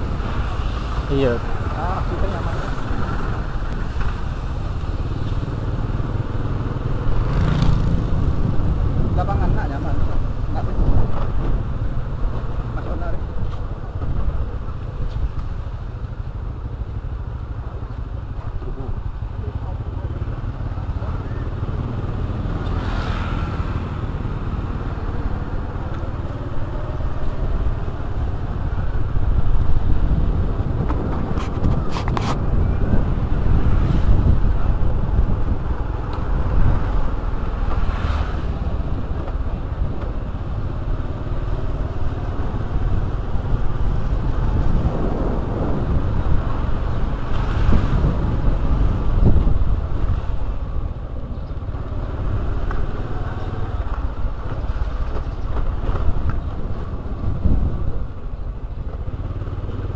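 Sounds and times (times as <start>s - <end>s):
motorcycle running: 0.0s - 59.9s
wind rumble on microphone: 0.0s - 59.9s.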